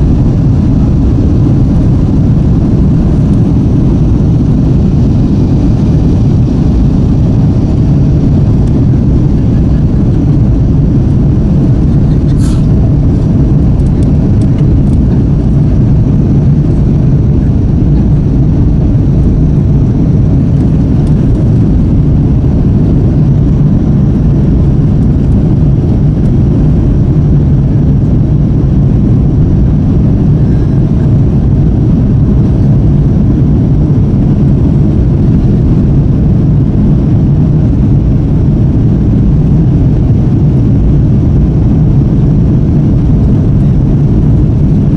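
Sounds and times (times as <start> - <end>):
jet engine cabin rumble: 0.0 - 44.9.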